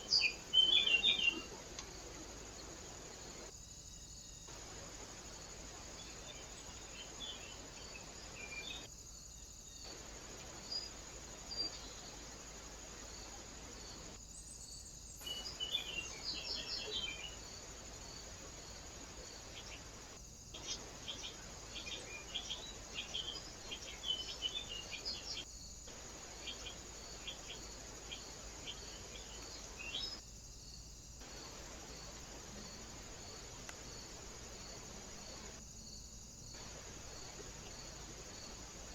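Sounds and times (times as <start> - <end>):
small birds chirping: 0.0 - 35.6
recorder hiss: 0.0 - 38.9.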